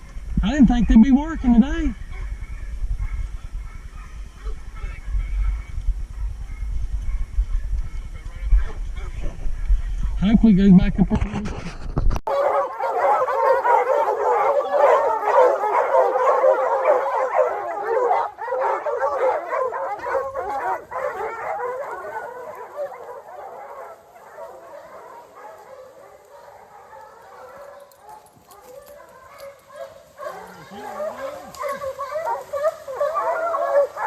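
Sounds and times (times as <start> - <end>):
hounds baying: 0.0 - 9.6, 12.3 - 34.0.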